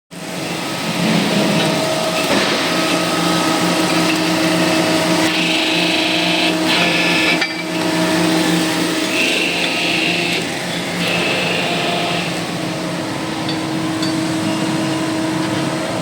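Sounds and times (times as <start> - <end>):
hydraulic press motor hum: 0.4 - 16.0.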